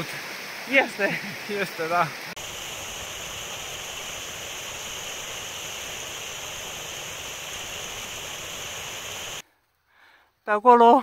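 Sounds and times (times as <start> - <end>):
stream rushing over rocks: 0.0 - 9.4.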